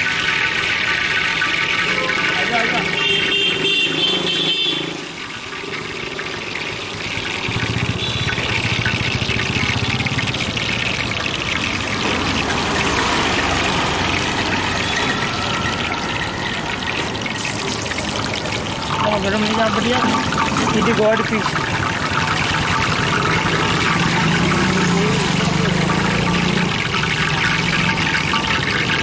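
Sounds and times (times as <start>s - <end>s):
batter sizzling in hot oil: 0.0s - 3.5s, 4.7s - 29.0s.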